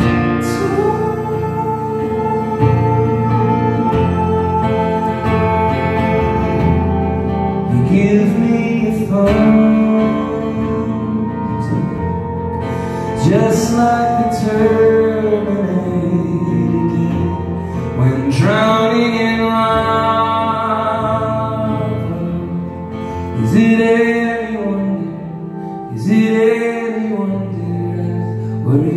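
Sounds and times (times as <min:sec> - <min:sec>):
acoustic guitar: 0:00.0 - 0:28.9
electric bass: 0:00.0 - 0:28.9
man singing: 0:00.0 - 0:28.9.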